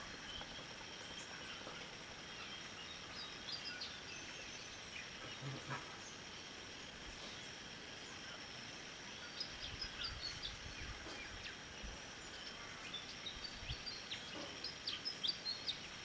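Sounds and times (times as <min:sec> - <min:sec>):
small birds chirping: 0:00.0 - 0:16.0
steady background hiss: 0:00.0 - 0:16.0.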